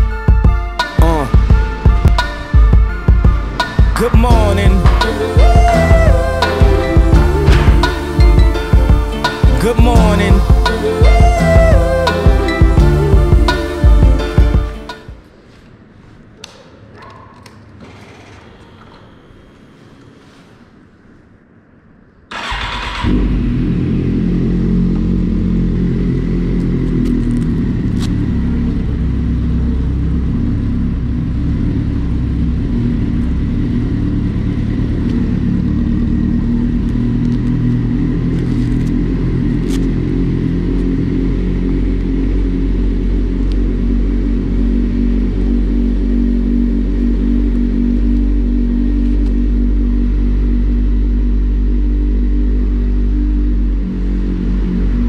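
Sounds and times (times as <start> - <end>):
motorcycle engine starting and idling: 1.4 - 14.8, 22.3 - 55.0.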